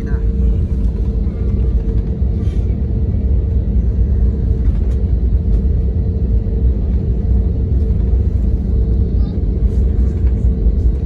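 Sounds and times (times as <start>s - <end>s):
airliner cabin rumble: 0.0s - 11.0s
constant hum: 0.0s - 11.0s.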